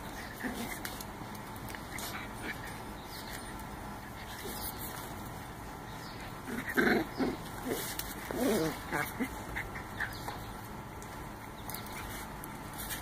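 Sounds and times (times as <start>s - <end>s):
dogs play-wrestling: 0.0s - 13.0s.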